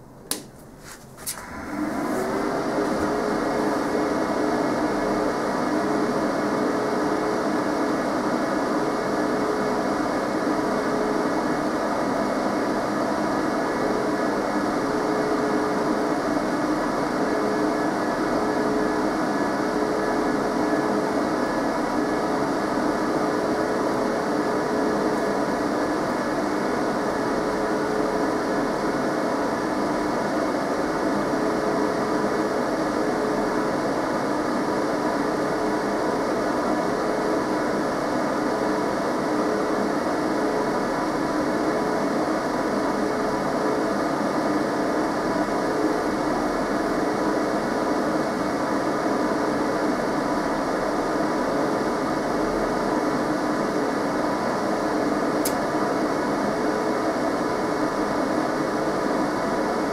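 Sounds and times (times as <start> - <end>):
cooling fans whirring: 0.0 - 59.9.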